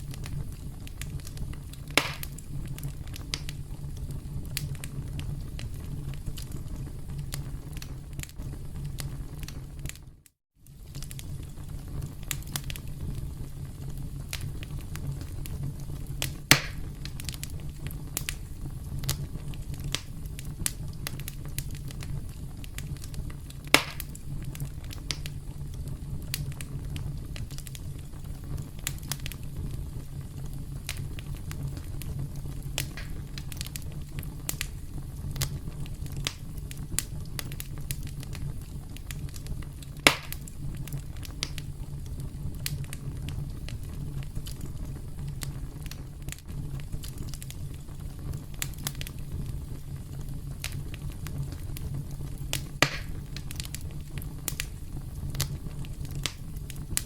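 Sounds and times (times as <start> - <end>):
campfire crackling: 0.0 - 57.0
fire pops: 0.0 - 57.0.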